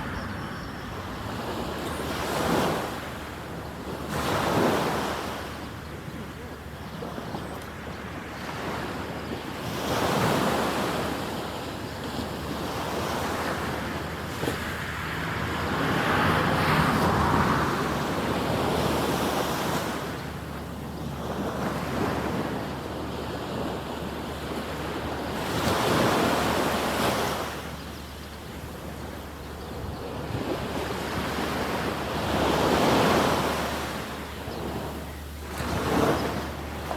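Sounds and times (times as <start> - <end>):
wind rumble on microphone: 0.0 - 36.9
waves breaking on beach: 1.0 - 36.9.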